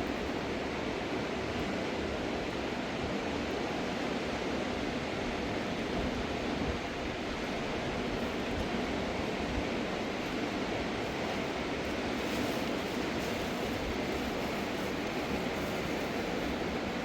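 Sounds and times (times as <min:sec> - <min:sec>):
river water rushing: 0:03.4 - 0:17.0.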